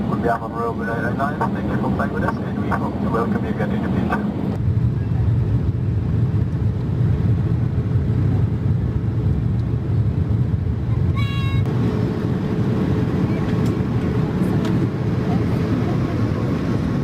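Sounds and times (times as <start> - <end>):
airplane cabin rumble in flight: 0.0 - 17.0.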